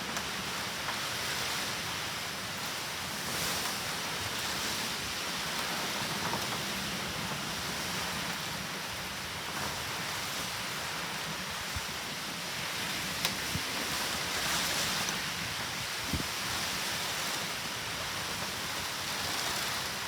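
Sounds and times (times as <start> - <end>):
heavy rain and wind rushing: 0.0 - 20.0.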